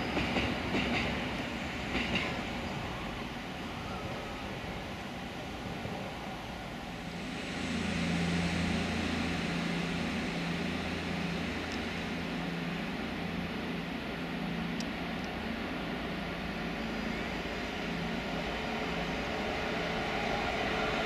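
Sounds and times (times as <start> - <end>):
locomotive engine humming: 0.0 - 21.0.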